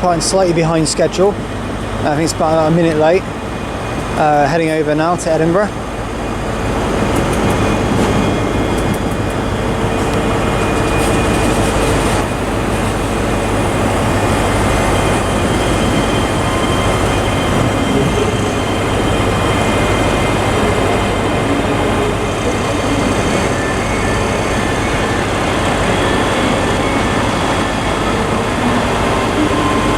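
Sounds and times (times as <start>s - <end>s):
electric train pulling out: 0.0s - 29.9s.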